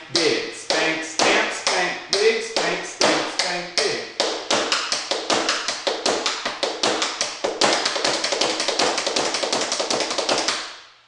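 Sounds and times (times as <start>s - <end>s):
tap shoes on wooden floor: 0.7s - 3.5s, 4.2s - 10.6s.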